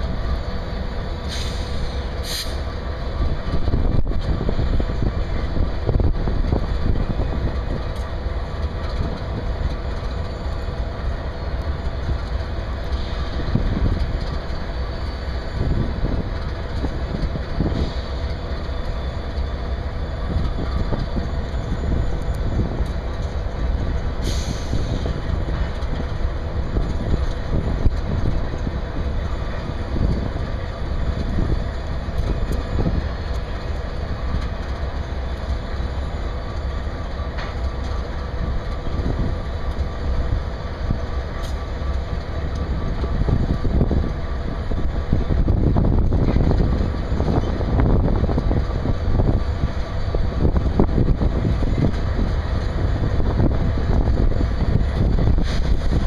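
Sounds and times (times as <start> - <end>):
diesel locomotives idling: 0.0 - 56.0.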